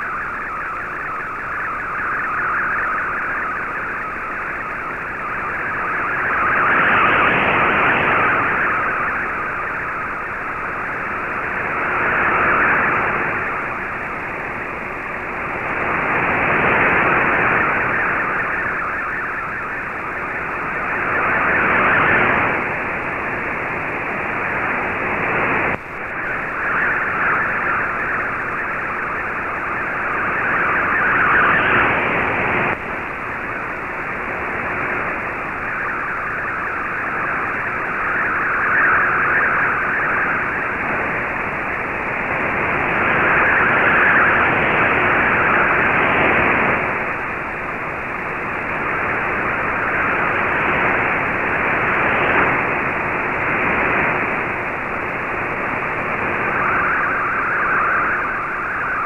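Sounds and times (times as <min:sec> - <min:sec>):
hiss-like digital data signal: 0:00.0 - 0:59.0.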